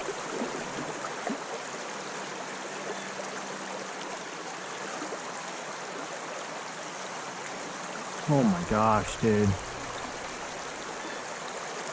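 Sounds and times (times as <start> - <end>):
creek water flowing: 0.0 - 11.9.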